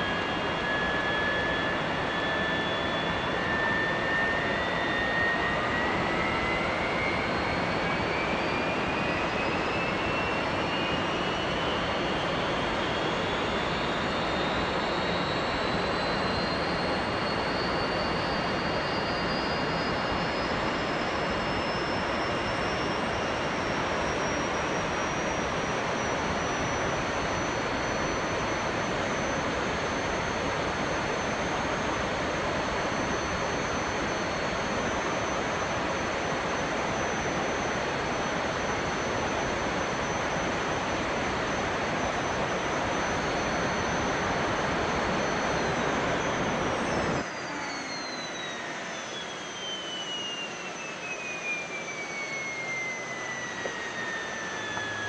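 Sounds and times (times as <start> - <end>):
jet engine whining: 0.0 - 55.0.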